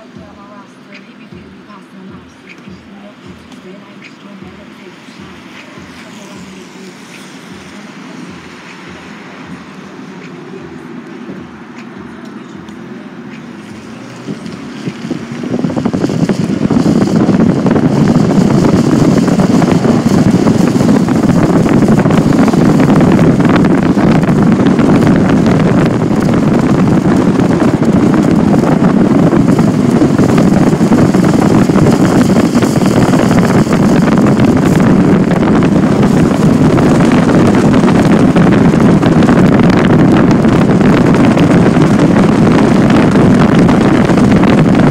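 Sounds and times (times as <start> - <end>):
car engine hum: 0.0 - 44.9
wind noise on microphone: 0.0 - 44.9.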